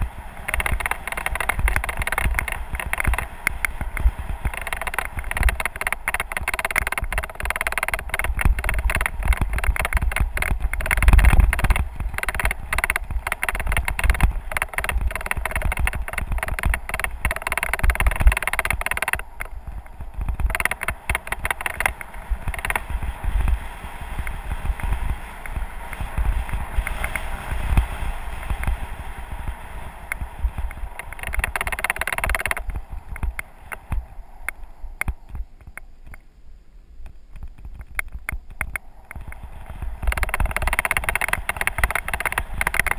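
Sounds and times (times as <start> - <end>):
bike rattling over stones: 0.0 - 34.3, 37.1 - 42.9
tyres crunching on gravel: 0.0 - 35.8, 37.5 - 42.9
wind buffeting microphone: 0.0 - 36.3, 36.9 - 42.9.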